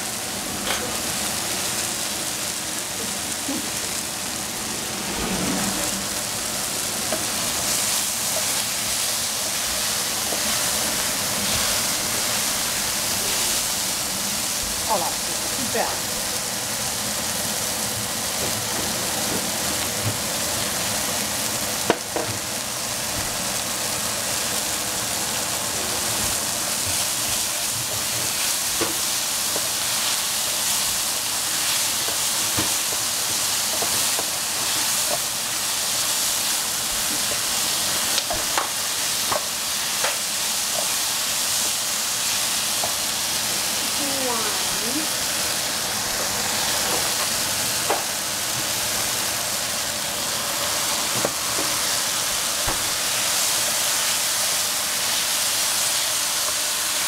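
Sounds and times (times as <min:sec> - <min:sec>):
mushrooms sizzling in a pan: 0:00.0 - 0:57.0.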